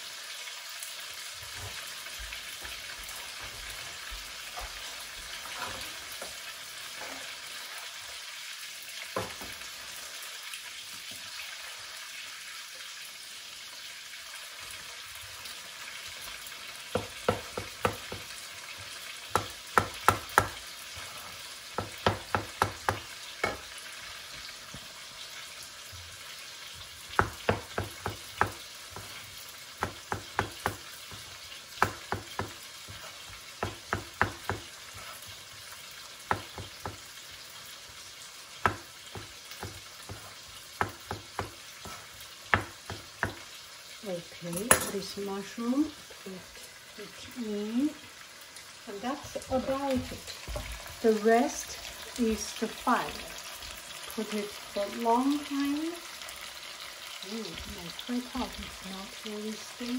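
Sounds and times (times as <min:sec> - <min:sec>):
oil frying in a pot: 0:00.0 - 0:59.9.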